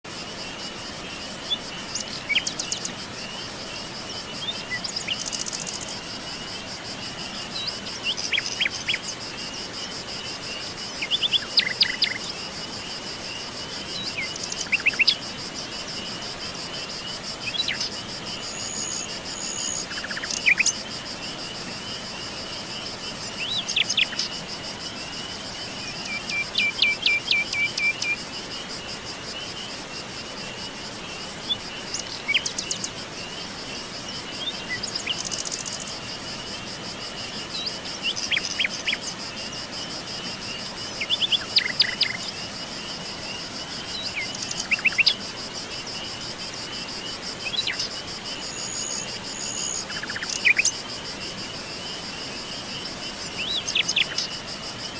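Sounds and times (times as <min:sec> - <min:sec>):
high-pitched insect trill: 0:00.1 - 0:54.9.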